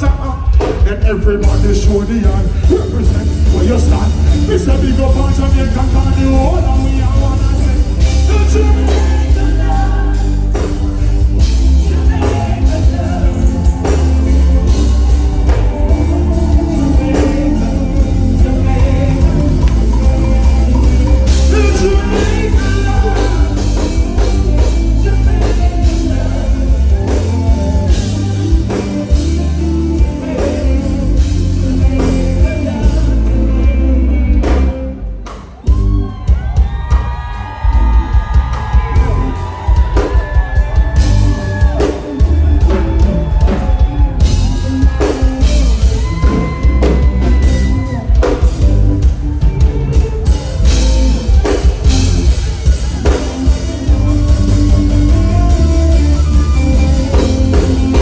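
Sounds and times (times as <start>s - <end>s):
band music with singing: 0.0s - 58.0s.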